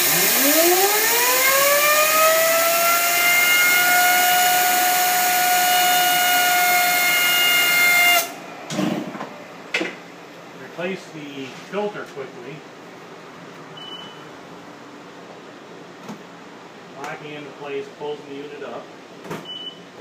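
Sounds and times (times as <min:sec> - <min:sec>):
fan whining: 0:00.0 - 0:19.1.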